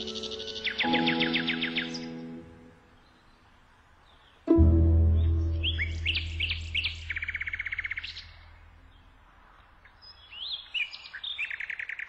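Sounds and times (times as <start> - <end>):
songbird singing with trills: 0.0 - 9.2, 9.8 - 12.0.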